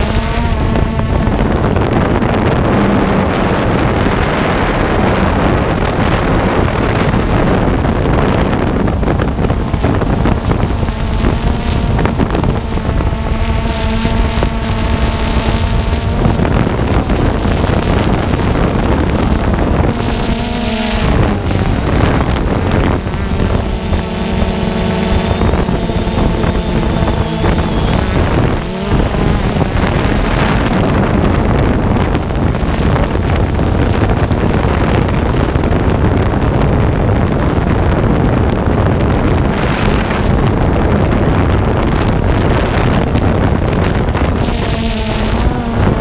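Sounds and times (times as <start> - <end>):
drone motors buzzing: 0.0 - 46.0
wind buffeting microphone: 0.0 - 46.0.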